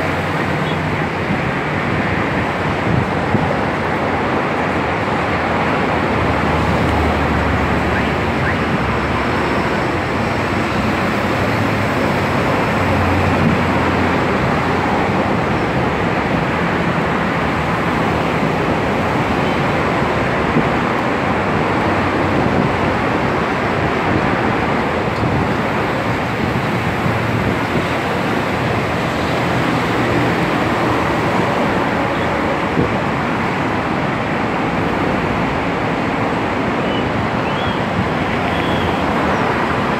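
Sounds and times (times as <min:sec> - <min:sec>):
city traffic: 0:00.0 - 0:39.9
wind on microphone: 0:00.0 - 0:39.9.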